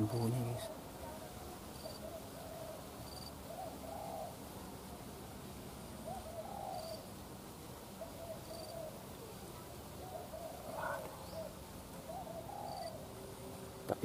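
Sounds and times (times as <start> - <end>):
doves cooing: 0.0 - 5.2, 5.8 - 14.0.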